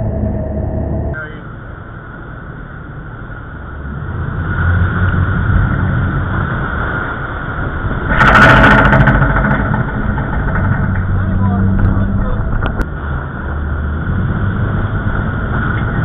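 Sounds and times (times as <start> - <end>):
boat engines running: 0.0 - 16.0
wave crashing over bow: 0.0 - 16.0.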